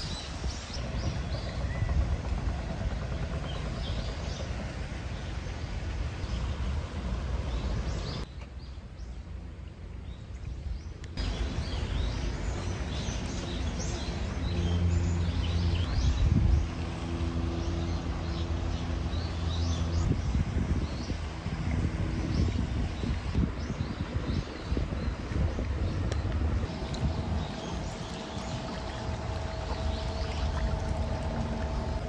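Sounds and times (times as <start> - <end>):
low outdoor rumble: 0.0 - 32.0
low steady hum: 0.0 - 32.0.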